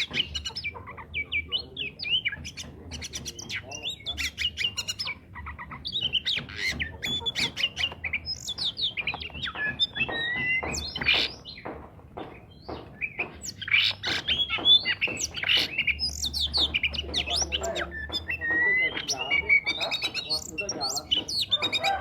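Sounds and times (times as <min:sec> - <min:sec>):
magpie-robin whistled song: 0:00.0 - 0:22.0.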